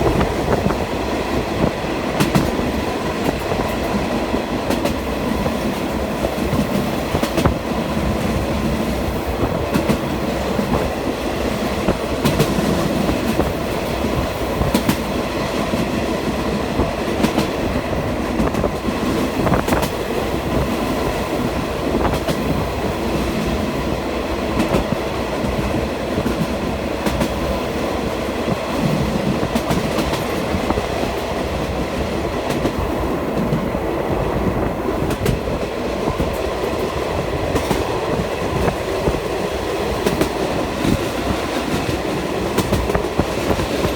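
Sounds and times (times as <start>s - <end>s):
train cars rumbling: 0.0s - 43.9s.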